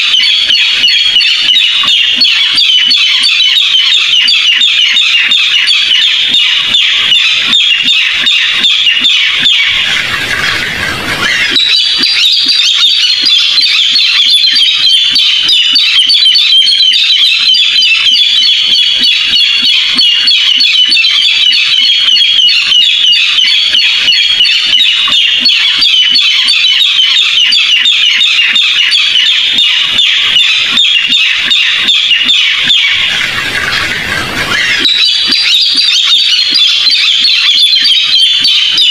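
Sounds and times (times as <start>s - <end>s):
rail bird calling rapid high notes: 0.0s - 38.9s.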